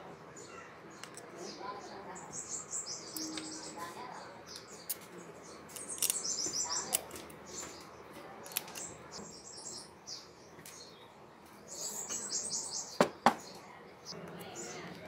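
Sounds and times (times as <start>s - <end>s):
small bird chirping: 0.3s - 15.0s.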